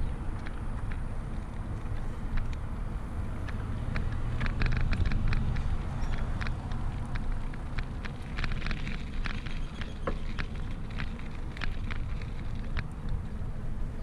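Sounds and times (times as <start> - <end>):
bike clicks and rattles: 0.0 - 14.0
wind and tyres rumbling: 0.0 - 14.0.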